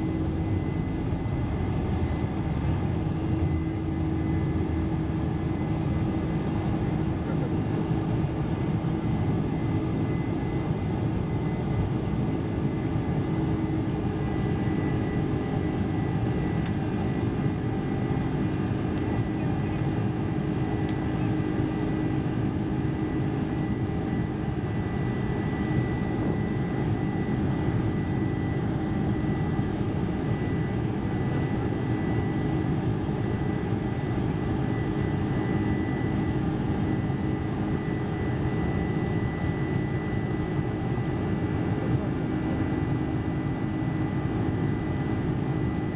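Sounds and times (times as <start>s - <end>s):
jet engines droning: 0.0s - 45.9s.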